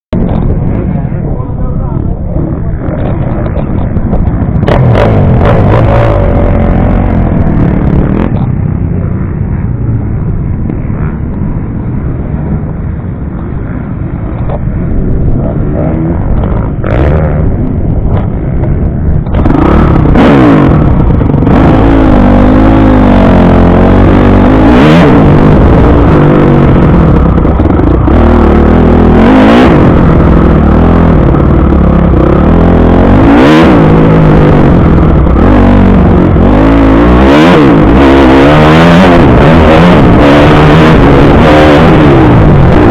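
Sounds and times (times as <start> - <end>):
motocross bike engine revving: 0.2 - 10.1, 10.8 - 42.9.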